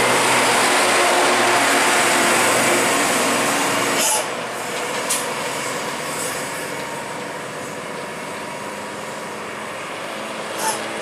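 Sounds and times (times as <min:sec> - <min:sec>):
truck diesel engine passing: 0:00.0 - 0:11.0.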